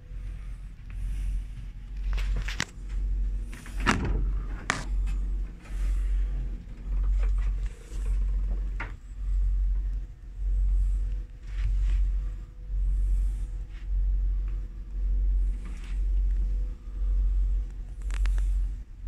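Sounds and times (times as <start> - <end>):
faint steady hum: 0.0 - 19.0
low pulsing rumble: 0.0 - 19.0.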